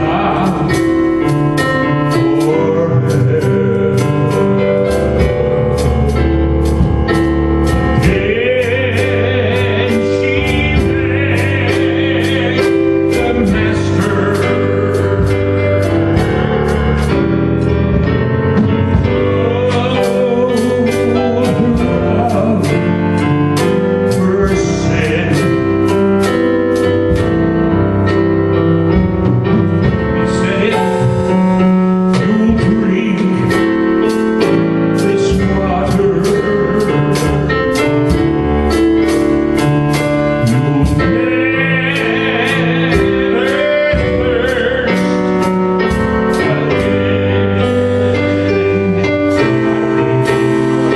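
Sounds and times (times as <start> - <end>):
person singing: 0.0 - 17.3, 18.0 - 27.5, 29.2 - 50.9
worship band with piano: 0.0 - 50.9.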